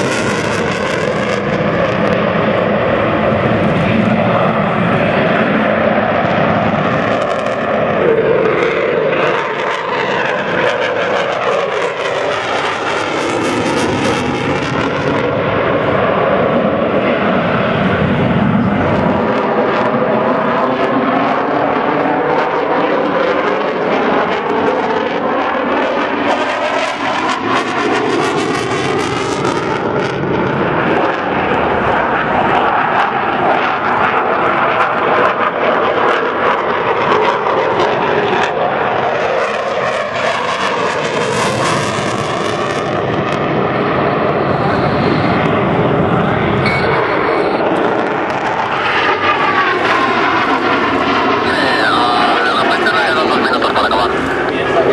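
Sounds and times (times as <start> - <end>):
jet engines passing overhead: 0.0 - 54.9.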